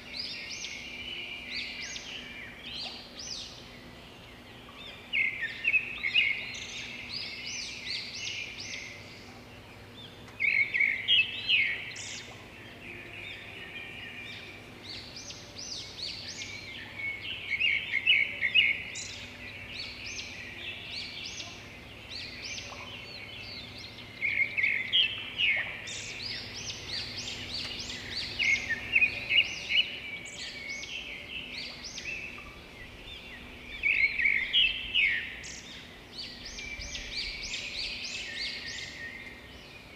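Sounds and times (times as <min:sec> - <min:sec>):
faint steady hum: 0:00.0 - 0:39.9
small birds chirping: 0:00.0 - 0:39.9.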